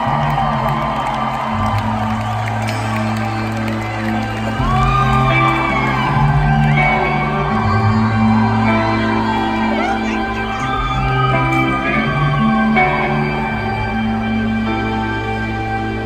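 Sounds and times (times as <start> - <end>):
crowd whooping and shouting: 0.0 - 16.0
live band playing slow chords: 0.0 - 16.0.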